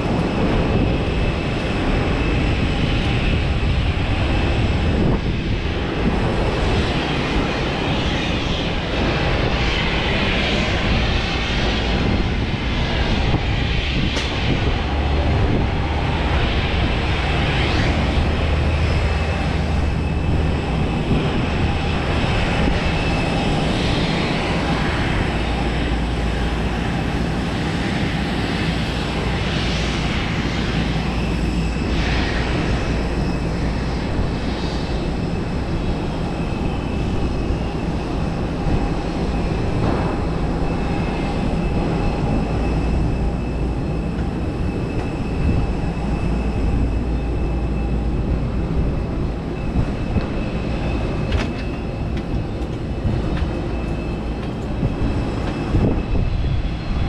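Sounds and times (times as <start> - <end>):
jet aircraft whine and rumble: 0.0 - 57.0.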